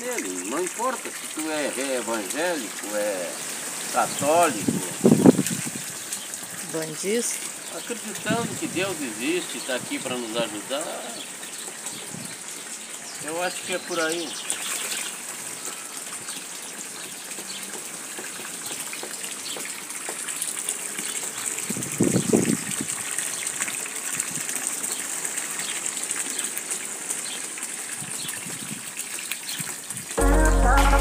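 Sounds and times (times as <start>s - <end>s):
water pouring into pond: 0.0s - 31.0s.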